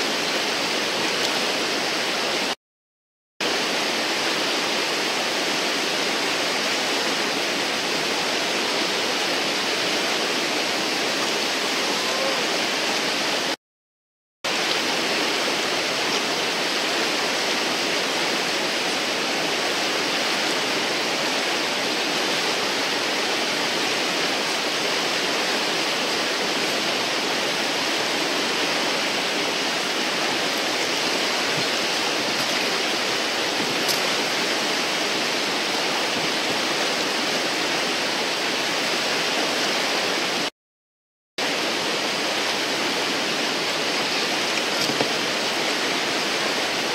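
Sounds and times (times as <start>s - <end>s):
whitewater rushing: 0.0s - 2.6s, 3.4s - 13.6s, 14.5s - 40.5s, 41.4s - 46.9s.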